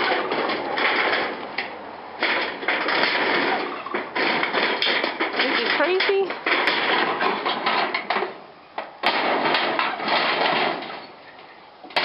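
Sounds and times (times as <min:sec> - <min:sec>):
shed being crushed: 0:00.0 - 0:12.0.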